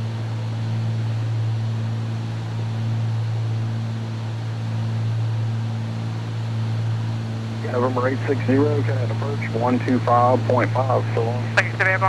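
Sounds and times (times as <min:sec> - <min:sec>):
twin propeller plane engines droning: 0:00.0 - 0:12.0.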